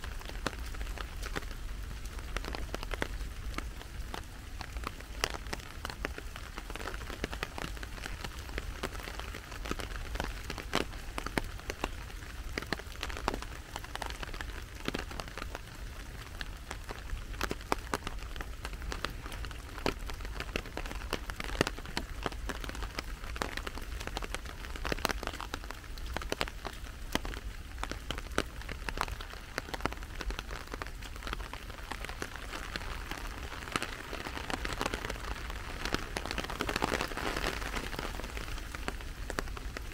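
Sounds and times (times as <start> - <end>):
raindrops ticking close by: 0.0 - 39.9
steady rain falling: 0.0 - 39.9.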